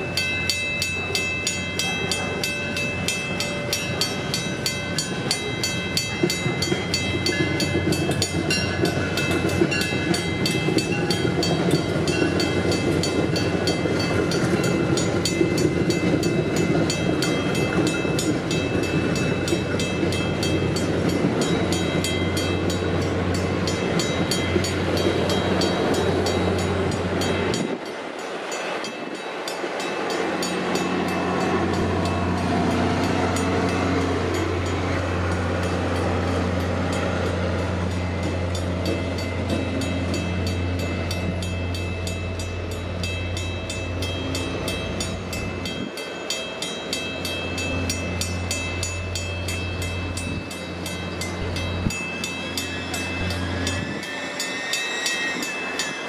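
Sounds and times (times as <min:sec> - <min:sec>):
crossing bells ringing: 0:00.0 - 0:56.0
diesel locomotive hum: 0:00.0 - 0:56.0
train coaches rolling: 0:00.0 - 0:56.0.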